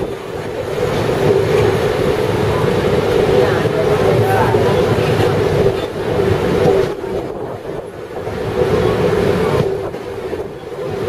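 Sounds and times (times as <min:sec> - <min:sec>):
electric train rumble and hum: 0:00.0 - 0:11.0.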